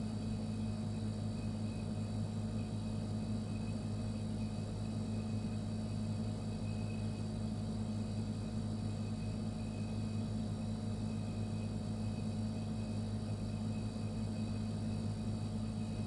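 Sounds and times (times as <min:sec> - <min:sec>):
refrigerator humming: 0:00.0 - 0:16.0.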